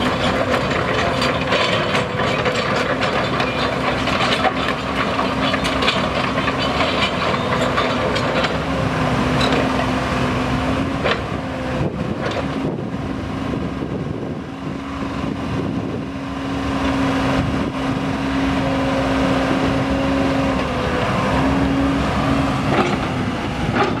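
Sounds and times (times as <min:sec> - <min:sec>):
excavator engine hum: 0:00.0 - 0:24.0.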